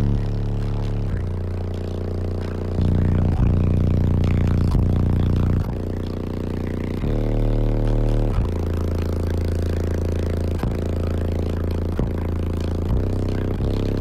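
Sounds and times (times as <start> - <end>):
deep bass from subwoofers: 0.0 - 14.0.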